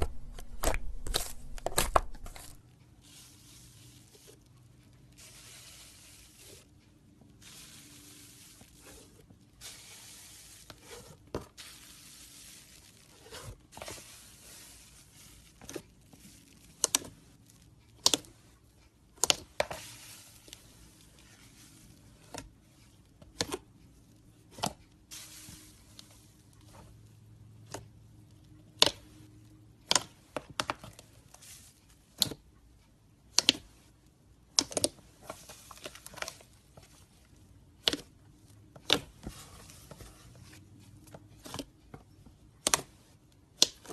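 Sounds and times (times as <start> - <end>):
slime squishing: 0.0 - 23.8, 27.6 - 32.5, 33.2 - 33.9, 34.5 - 43.9.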